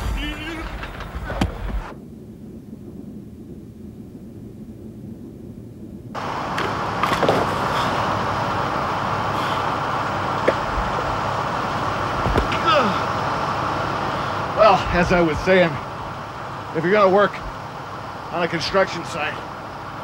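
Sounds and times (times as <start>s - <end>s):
loud steady machine din: 0.0s - 3.1s, 6.1s - 20.0s
muffled low machinery rumble: 0.0s - 20.0s.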